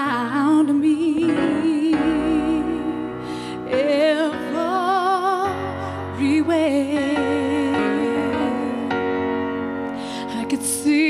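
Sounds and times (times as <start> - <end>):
woman singing a slow ballad: 0.0 - 9.4, 10.0 - 11.0
piano accompaniment: 0.0 - 11.0.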